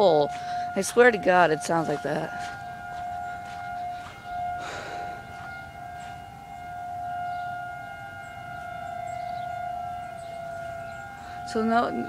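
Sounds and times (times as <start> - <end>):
outdoor warning siren: 0.0 - 12.0.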